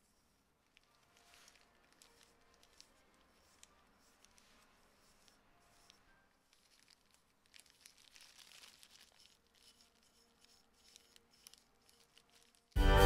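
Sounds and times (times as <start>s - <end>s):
brush on wood: 0.0s - 12.8s
plastic glove crinkling: 0.0s - 12.8s
soft crackles: 0.0s - 12.8s.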